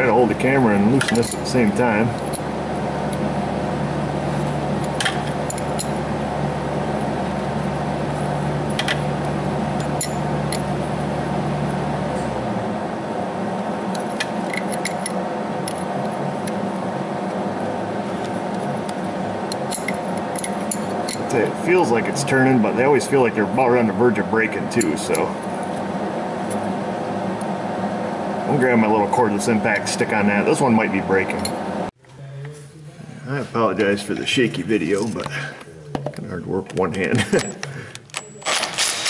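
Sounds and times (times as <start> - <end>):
low hum: 0.0 - 36.4
machine hum and hiss: 0.0 - 36.4.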